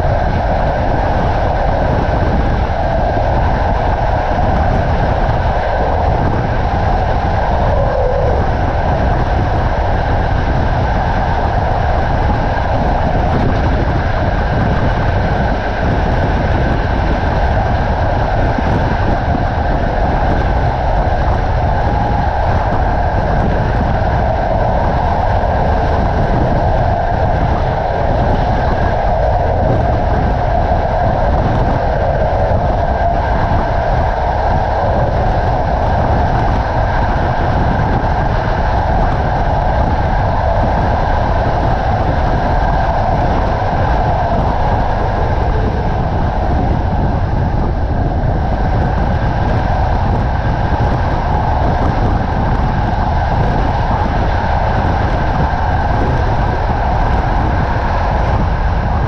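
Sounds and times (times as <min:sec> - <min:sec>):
rushing air: 0:00.0 - 0:59.0.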